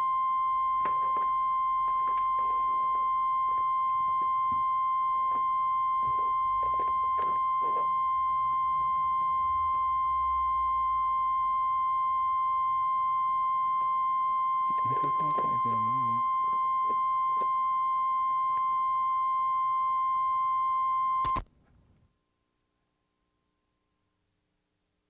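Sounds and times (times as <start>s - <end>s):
sine-wave test tone: 0.0s - 25.0s.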